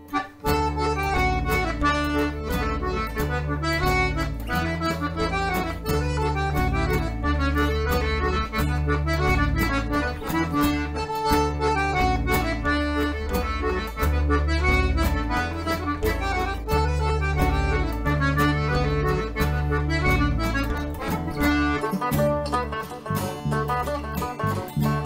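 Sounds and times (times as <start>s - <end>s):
bass line: 0.0s - 25.0s
button accordion playing reel: 0.0s - 25.0s
strummed acoustic guitar: 0.0s - 25.0s.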